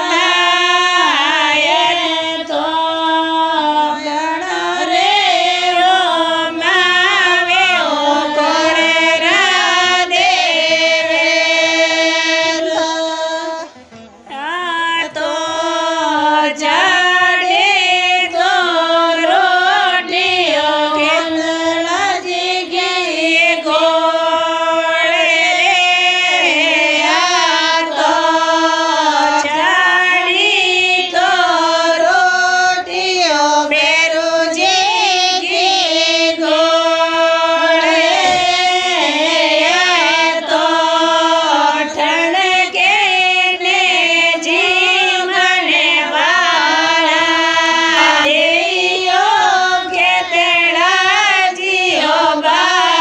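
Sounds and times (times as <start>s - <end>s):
woman singing devotional song: 0.0s - 53.0s.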